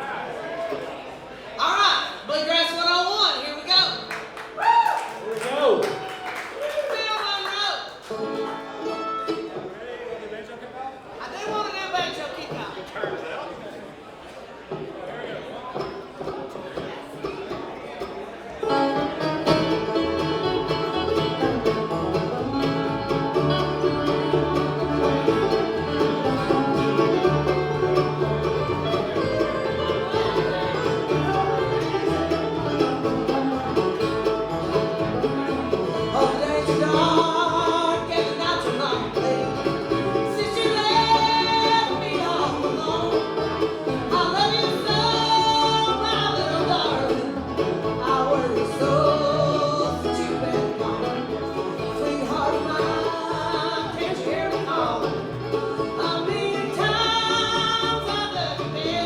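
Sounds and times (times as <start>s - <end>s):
bluegrass band playing: 0.0s - 4.6s, 5.9s - 59.0s.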